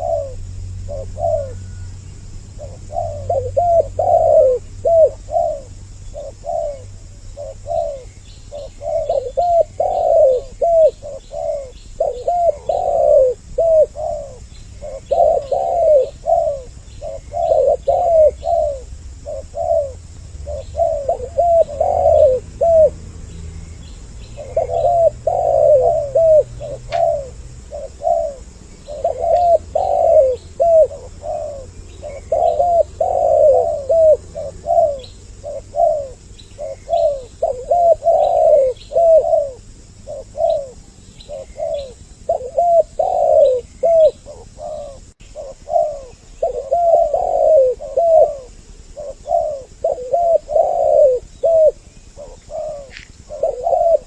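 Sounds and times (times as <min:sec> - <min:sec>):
doves cooing: 0:00.0 - 0:23.3, 0:24.0 - 0:54.0.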